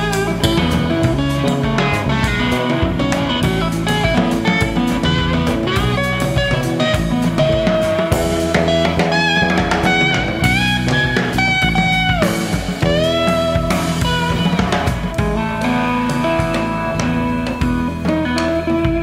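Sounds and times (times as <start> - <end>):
drum kit beat: 0.0 - 19.0
electric guitar lines: 0.0 - 19.0.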